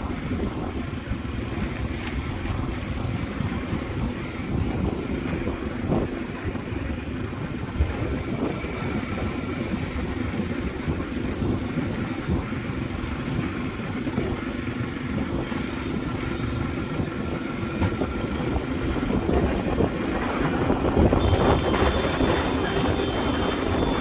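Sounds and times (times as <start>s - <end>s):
motorbike engine running: 0.0s - 24.0s
wind buffeting microphone: 0.0s - 24.0s.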